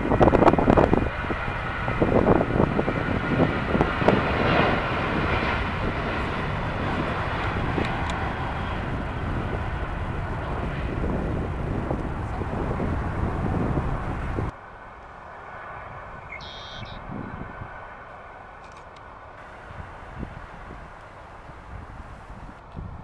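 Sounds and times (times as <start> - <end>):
wind buffeting microphone: 0.0 - 14.5, 15.8 - 18.0, 19.4 - 23.0
jet engine roar: 0.0 - 18.6, 19.2 - 22.6.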